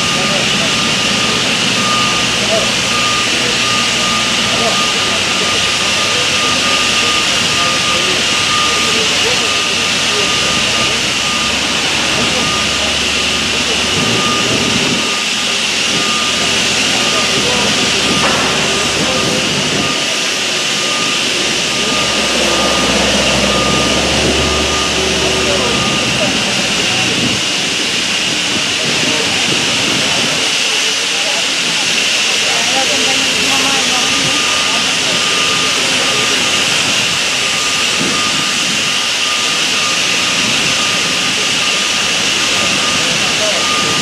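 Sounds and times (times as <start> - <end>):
faint high beeps: 0.0 - 27.8, 32.8 - 44.0
heavy machinery running: 0.0 - 44.0.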